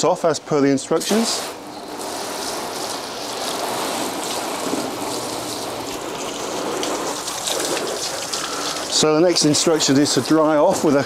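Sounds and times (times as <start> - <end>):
hose spraying water on panel: 0.9 - 11.0.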